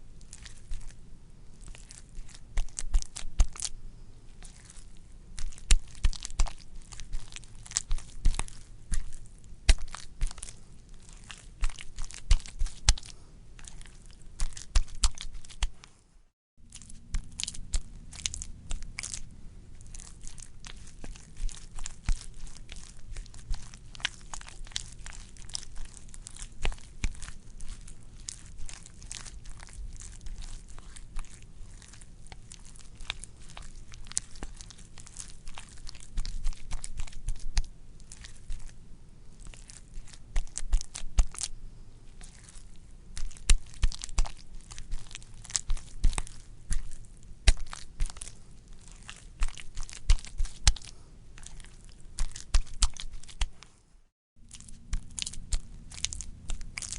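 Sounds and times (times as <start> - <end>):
wet squishy squelching: 0.0 - 16.0, 16.6 - 53.8, 54.4 - 56.9.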